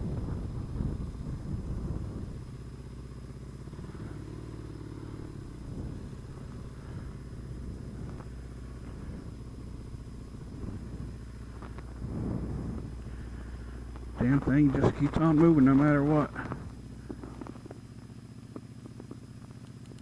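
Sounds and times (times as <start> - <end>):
road noise: 0.0 - 20.0
vehicle engine humming: 0.0 - 20.0.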